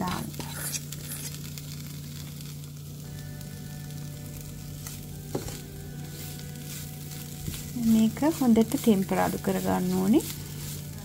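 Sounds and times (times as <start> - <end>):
coconut sizzling in a pan: 0.0 - 11.0.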